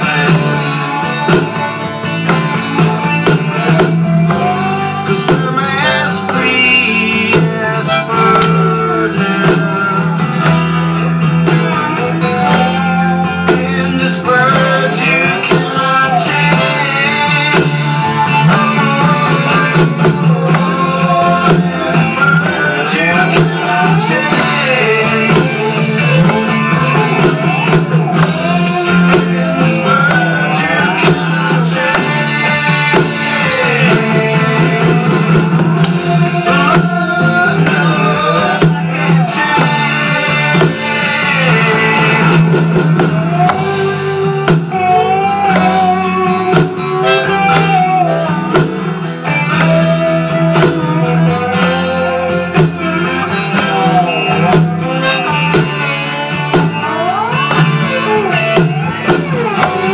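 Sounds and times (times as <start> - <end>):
electronic drum kit: 0.0 - 59.9
rock song with singing and guitar: 0.0 - 59.9.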